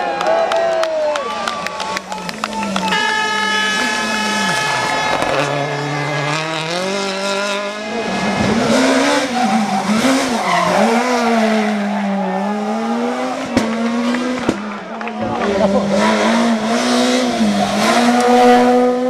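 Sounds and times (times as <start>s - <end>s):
rally car engine revving: 1.8s - 19.0s.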